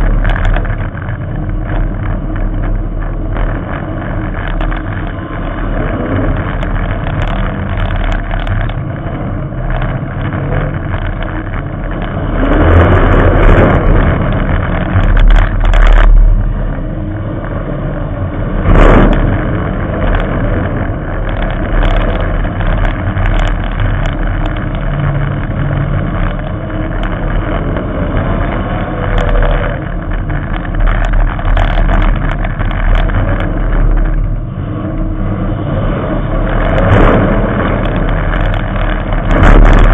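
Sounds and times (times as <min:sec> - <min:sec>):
race car engine revving: 0:03.4 - 0:39.9.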